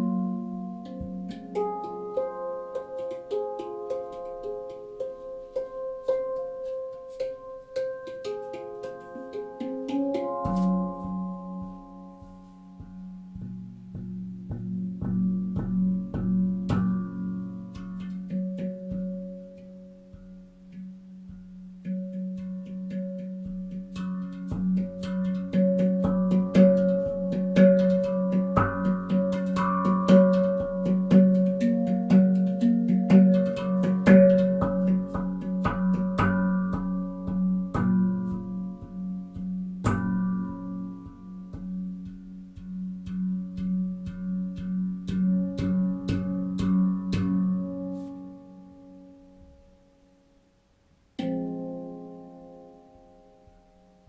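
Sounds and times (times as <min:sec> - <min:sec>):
handpan notes ringing: 0:00.0 - 0:50.5, 0:51.2 - 0:54.0.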